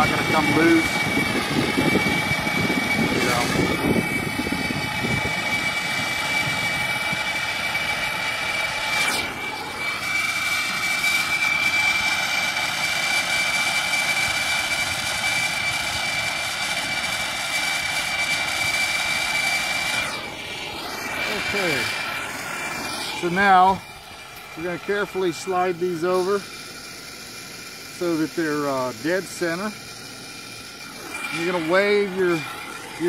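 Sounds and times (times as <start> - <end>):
gas torch hissing and whistling: 0.0 - 33.0.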